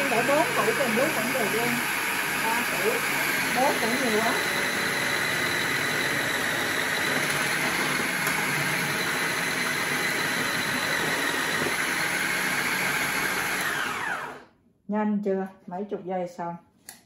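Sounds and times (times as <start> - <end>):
motor winding down: 0.0 - 14.4
food processor running: 0.0 - 14.5.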